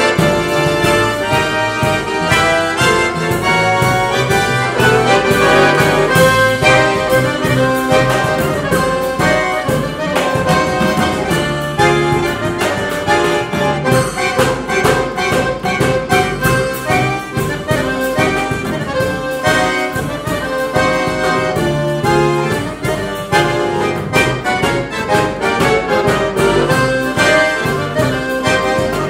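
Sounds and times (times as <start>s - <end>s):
accordion melody: 0.0s - 29.0s
drum kit beat: 0.0s - 29.0s
plucked double bass: 0.0s - 29.0s.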